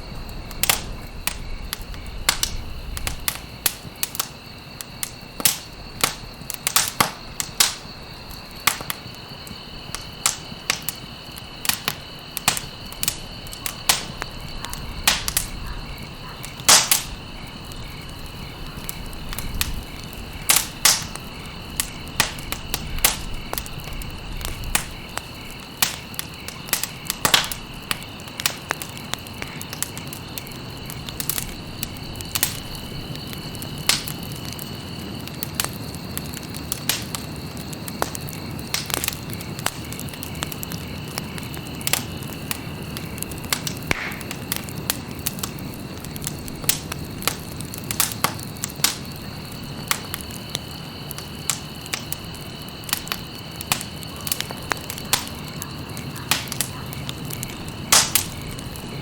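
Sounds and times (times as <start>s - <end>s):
campfire crackling and popping: 0.0s - 59.0s
low rush of flame: 0.0s - 59.0s.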